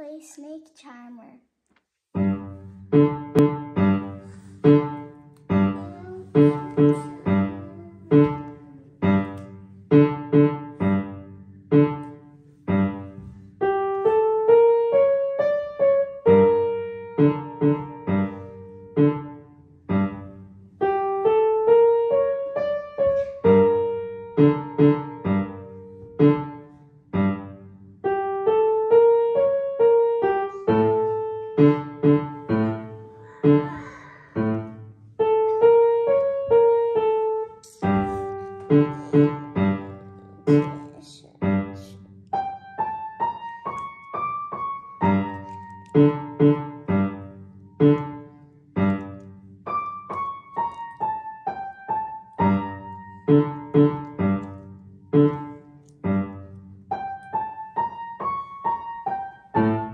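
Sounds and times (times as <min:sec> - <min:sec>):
piano chords and melody: 0:02.2 - 0:59.9.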